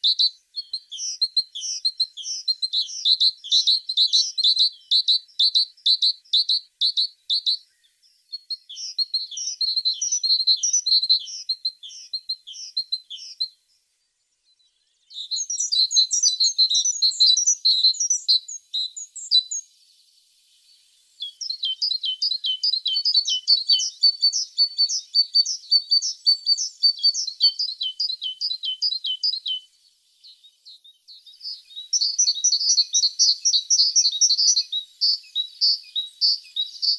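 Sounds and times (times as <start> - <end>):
bird chirping: 0.0 - 36.9.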